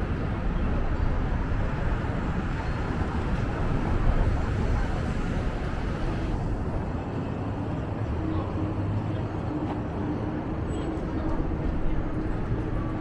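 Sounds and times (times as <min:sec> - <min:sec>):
low traffic rumble: 0:00.0 - 0:13.0
noisy wash: 0:00.0 - 0:13.0.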